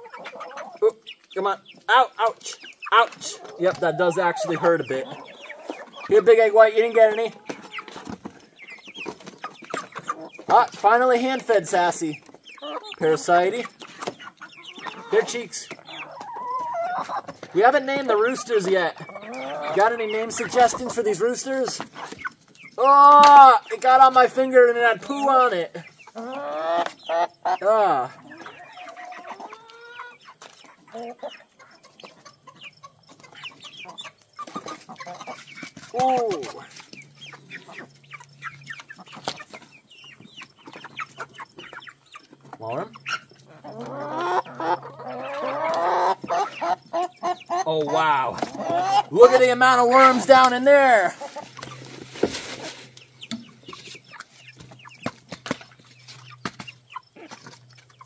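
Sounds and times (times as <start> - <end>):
chickens clucking and chirping: 0.0 - 58.0.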